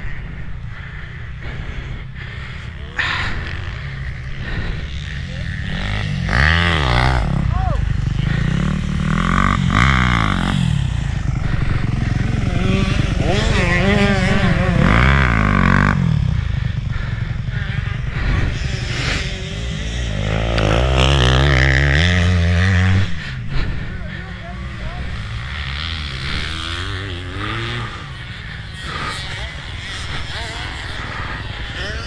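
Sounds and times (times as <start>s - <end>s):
motocross bikes revving past: 0.0s - 32.0s.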